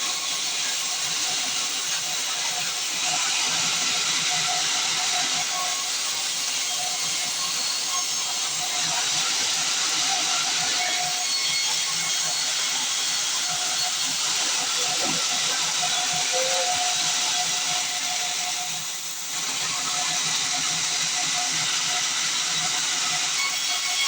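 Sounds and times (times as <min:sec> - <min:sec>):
band saw cutting log: 0:00.0 - 0:24.0.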